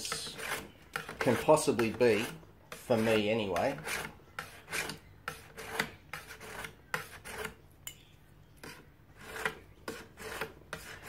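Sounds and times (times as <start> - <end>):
stone scraping knife edge: 0.0 - 11.0.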